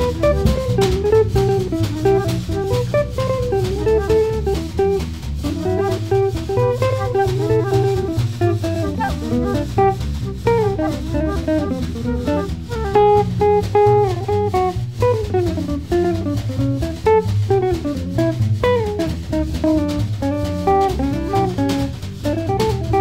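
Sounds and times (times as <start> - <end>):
jazz quartet playing: 0.0 - 23.0
quick single-note melody: 0.0 - 23.0.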